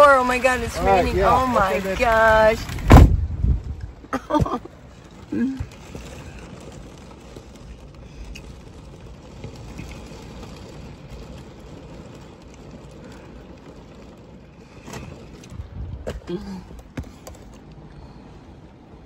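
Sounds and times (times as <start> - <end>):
low wind rumble: 0.0 - 19.0
rain pattering on a van: 0.0 - 19.0.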